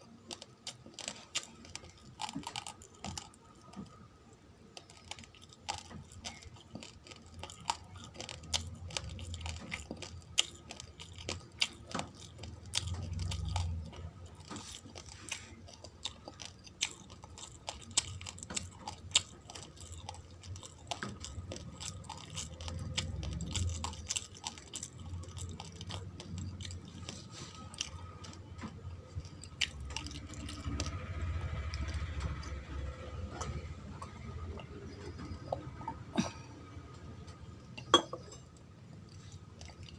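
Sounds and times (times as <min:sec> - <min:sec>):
raw rice grains being chewed: 0:00.0 - 0:37.5, 0:39.0 - 0:39.9.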